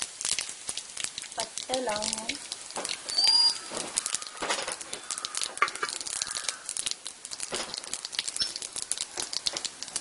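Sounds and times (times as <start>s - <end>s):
spices sizzling in hot oil: 0.0s - 10.0s
sharp popping: 0.2s - 10.0s.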